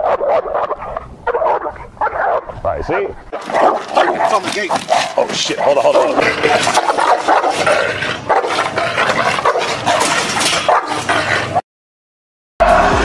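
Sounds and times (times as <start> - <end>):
dog barking aggressively: 0.0 - 11.6.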